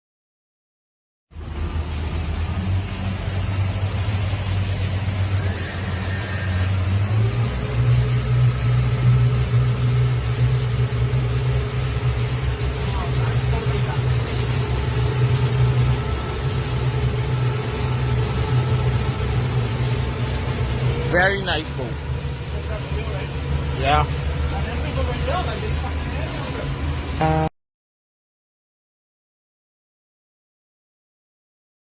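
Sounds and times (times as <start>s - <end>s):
boat engine running: 1.3s - 27.5s.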